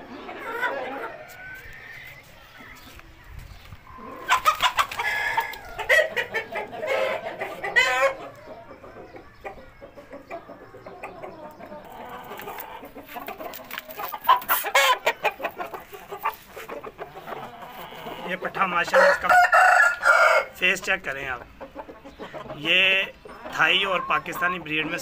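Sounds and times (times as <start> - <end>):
chickens calling: 0.0 - 25.0.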